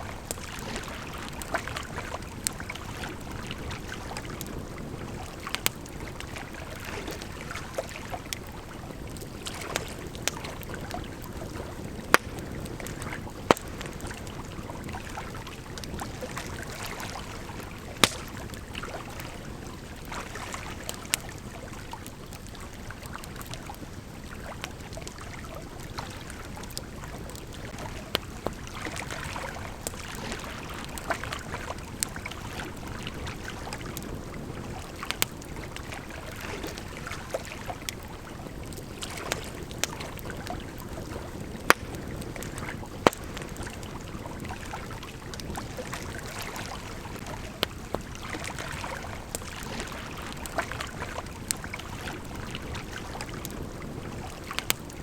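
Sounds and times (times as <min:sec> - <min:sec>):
campfire crackling and popping: 0:00.0 - 0:55.0
river flowing: 0:00.0 - 0:55.0.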